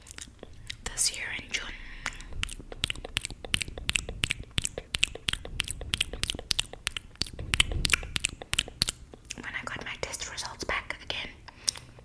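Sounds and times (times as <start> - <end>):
fingers being sucked and licked: 0.0 - 9.9.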